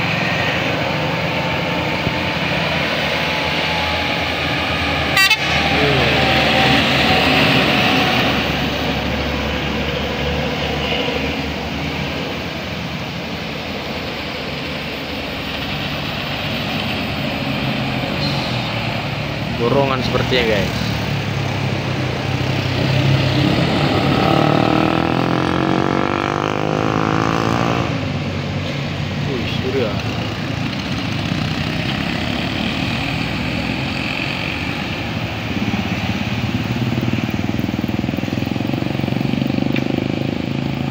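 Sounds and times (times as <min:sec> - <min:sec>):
heavy vehicle passing: 0:00.0 - 0:40.9.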